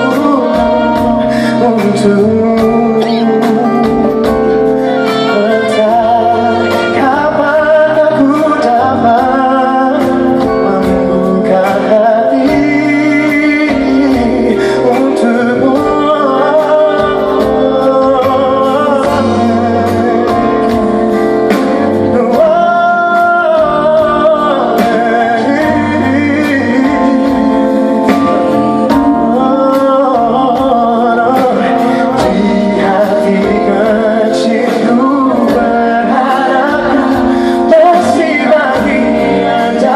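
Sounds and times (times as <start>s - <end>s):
live band playing pop ballad: 0.0s - 39.9s
person singing: 0.0s - 39.9s
steady drum beat: 0.0s - 39.9s.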